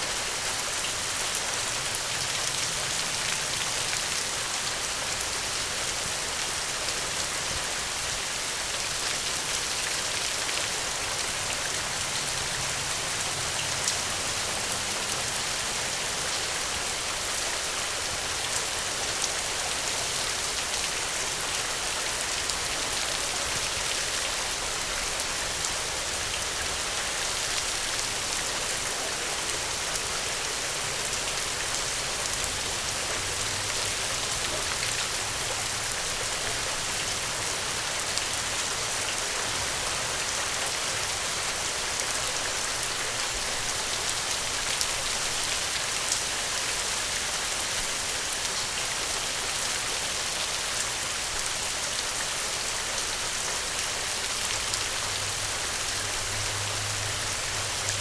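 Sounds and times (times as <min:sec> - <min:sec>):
gentle rain hiss: 0:00.0 - 0:58.0.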